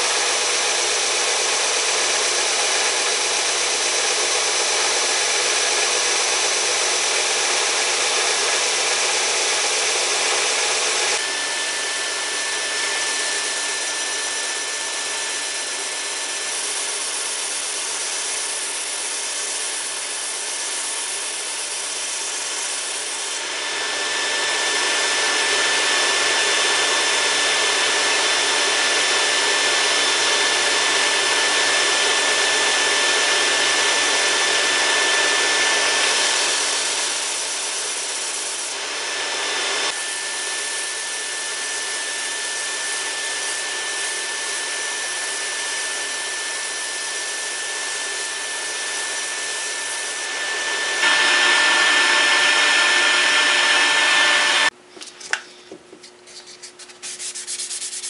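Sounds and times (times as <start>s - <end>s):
belt sander hissing on wood: 0.0s - 54.7s
wood on sanding wheel: 0.0s - 54.7s, 56.3s - 58.0s
sander motor whine: 0.0s - 54.8s.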